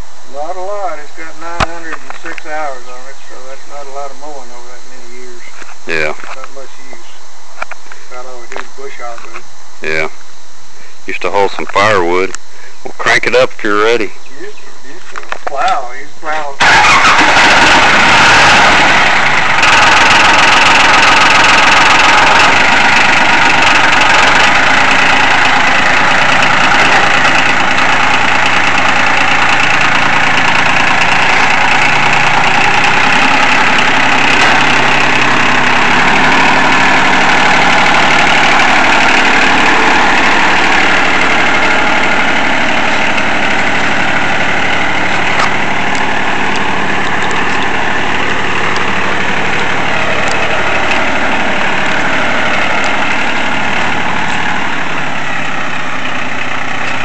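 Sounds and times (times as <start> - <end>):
tractor diesel engine running: 0.0 - 10.0, 10.8 - 57.0.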